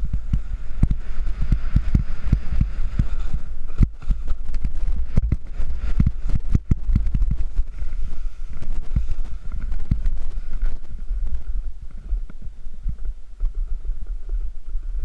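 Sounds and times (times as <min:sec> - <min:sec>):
snowboard scraping and chattering: 0:00.0 - 0:15.0
wind buffeting microphone: 0:00.0 - 0:15.0.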